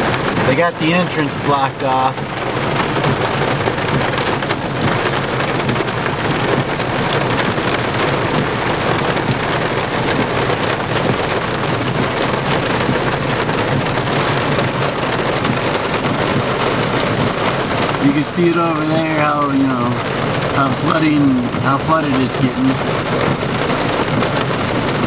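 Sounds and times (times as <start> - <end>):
heavy rain drumming on car: 0.0 - 25.0.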